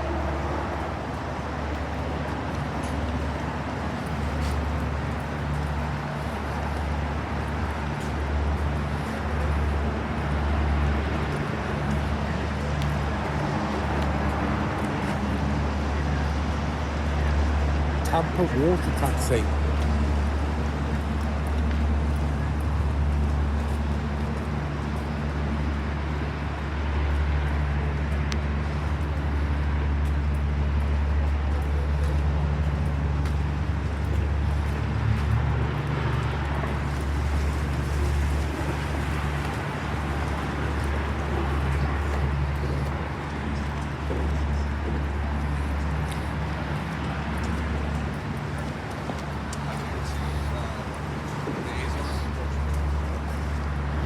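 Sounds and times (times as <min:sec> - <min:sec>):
urban background noise: 0:00.0 - 0:54.0.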